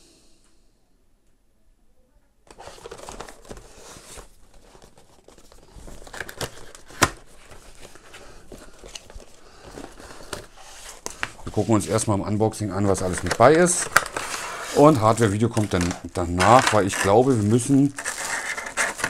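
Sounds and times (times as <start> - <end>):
cardboard rustling and scraping: 2.5 - 12.2, 12.8 - 19.0.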